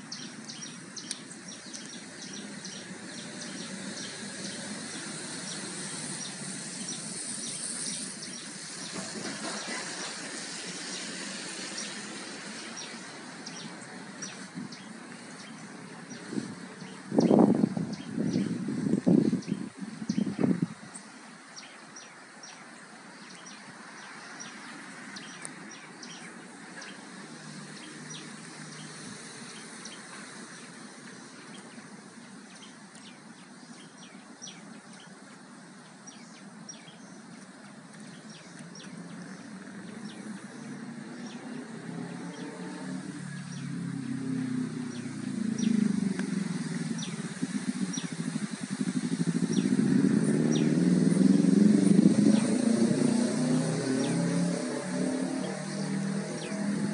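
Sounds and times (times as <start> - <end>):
passing vehicle engine: 0.0 - 21.0, 23.4 - 32.6, 37.3 - 56.9
small birds chirping: 0.0 - 54.6, 55.2 - 56.9.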